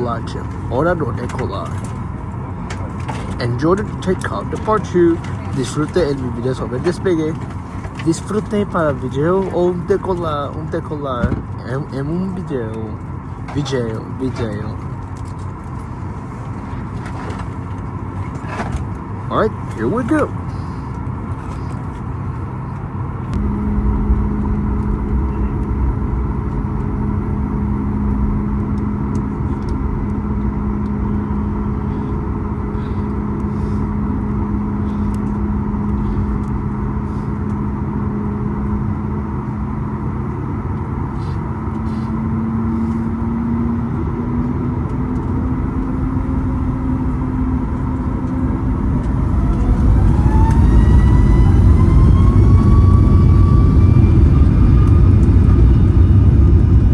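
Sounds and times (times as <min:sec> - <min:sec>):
jet engines humming in cabin: 0:00.0 - 0:56.9
jet engines spooling up whine: 0:00.0 - 0:56.9.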